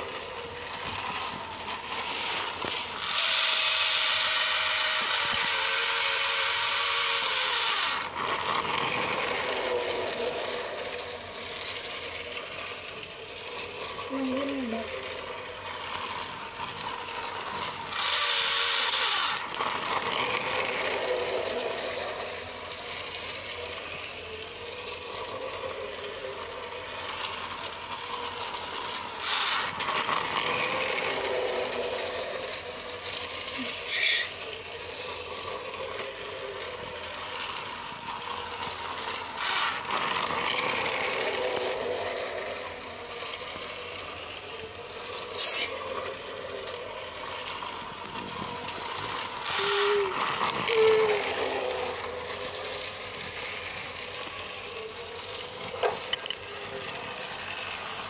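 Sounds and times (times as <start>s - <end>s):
toy train motor whirring: 0.0s - 58.0s.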